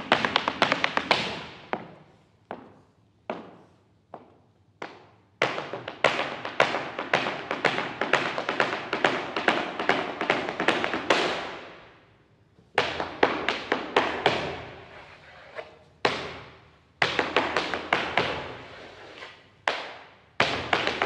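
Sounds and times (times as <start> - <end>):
flamenco shoes striking a hard floor: 0.0 - 11.6, 12.8 - 14.7, 16.0 - 18.6, 19.7 - 21.0.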